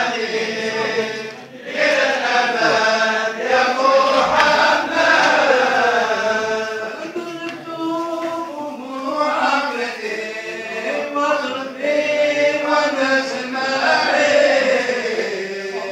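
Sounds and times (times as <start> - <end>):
men chanting together: 0.0 - 15.9.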